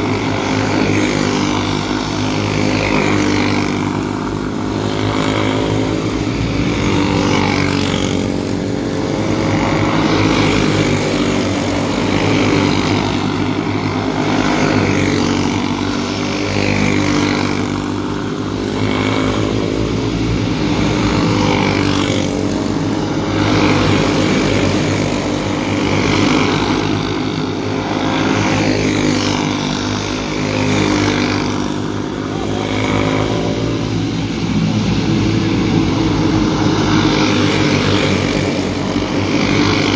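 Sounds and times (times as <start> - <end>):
go-kart engines revving: 0.0 - 39.9.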